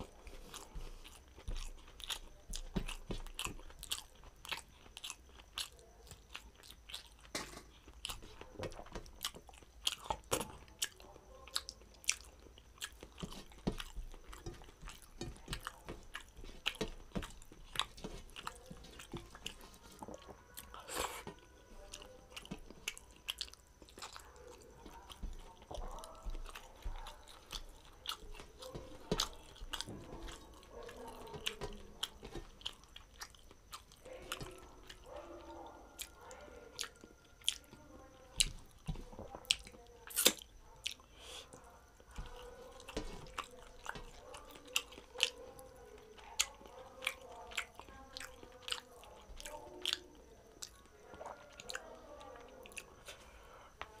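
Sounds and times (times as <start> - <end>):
man chewing and lip-smacking: 0.0 - 35.1, 35.9 - 37.7, 38.6 - 51.8.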